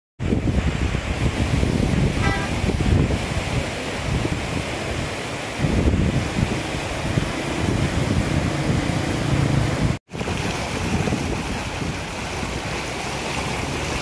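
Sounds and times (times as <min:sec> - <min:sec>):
river rushing: 0:00.2 - 0:14.0
wind buffeting microphone: 0:00.2 - 0:14.0.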